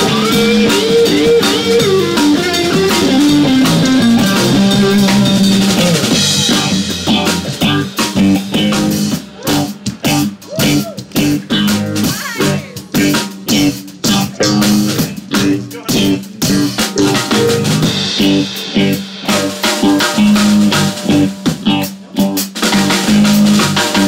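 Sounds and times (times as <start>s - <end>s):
drum kit: 0.0s - 24.0s
electric bass: 0.0s - 24.0s
electric guitar: 0.0s - 24.0s.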